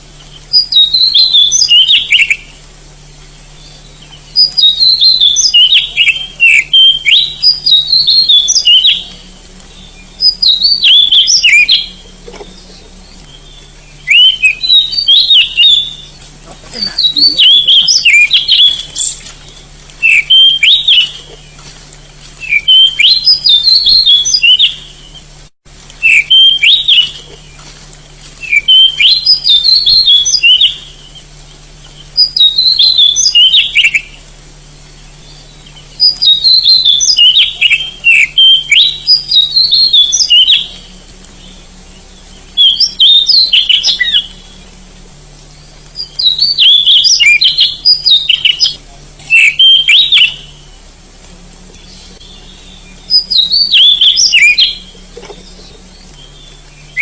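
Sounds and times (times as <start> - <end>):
magpie-robin whistled song: 0.2 - 2.6, 3.5 - 21.6, 22.4 - 25.3, 26.0 - 27.6, 28.4 - 34.2, 34.9 - 44.7, 45.5 - 50.8, 51.7 - 57.0.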